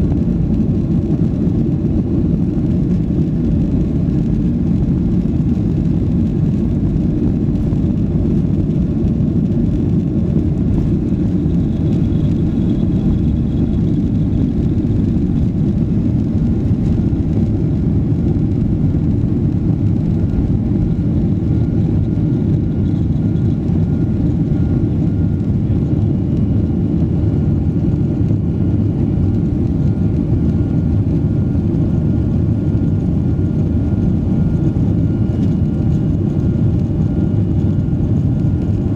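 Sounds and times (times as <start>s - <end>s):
jet engines at takeoff power: 0.0s - 38.9s.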